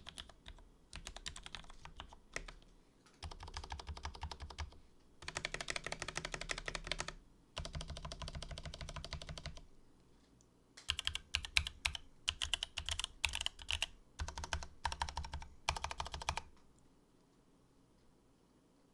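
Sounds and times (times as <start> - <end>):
keyboard typing: 0.0 - 9.7, 10.8 - 16.6.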